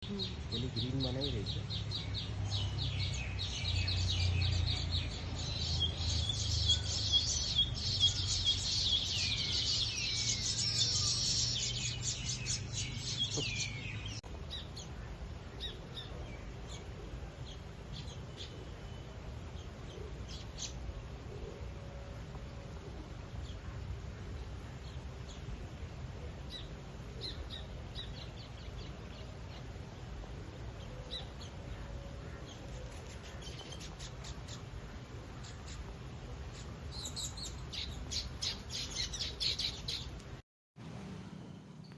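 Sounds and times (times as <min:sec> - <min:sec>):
small birds chirping: 0:00.0 - 0:21.7, 0:23.0 - 0:40.4.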